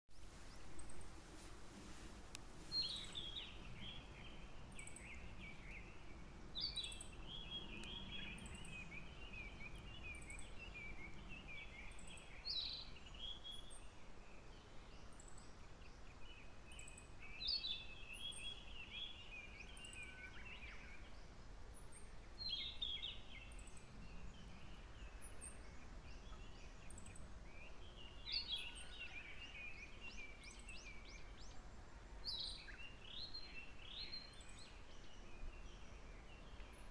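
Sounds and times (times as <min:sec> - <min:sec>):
songbird singing: 0:00.1 - 0:36.9.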